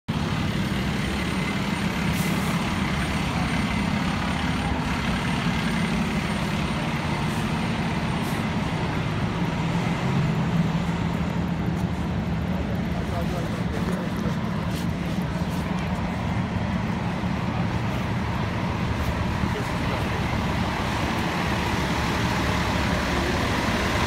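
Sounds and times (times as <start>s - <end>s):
heavy truck engines rumbling: 0.1s - 24.0s
street traffic: 0.1s - 24.0s.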